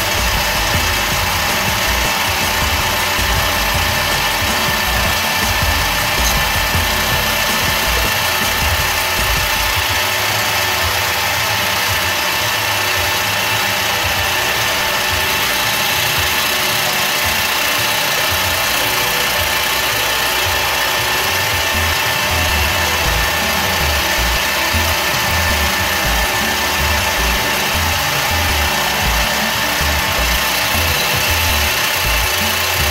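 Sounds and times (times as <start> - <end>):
metal lathe whining: 0.0 - 32.9.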